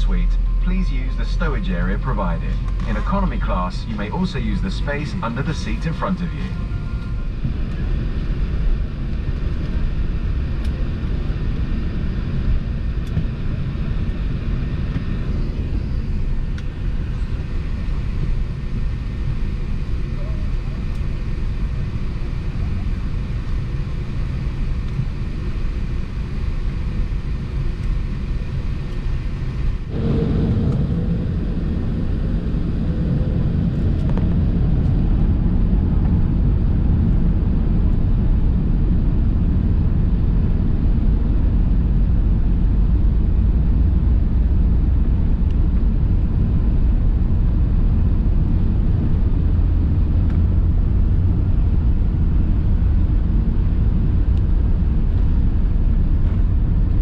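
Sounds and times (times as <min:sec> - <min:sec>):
aircraft engine and airflow rumble: 0:00.0 - 0:57.0.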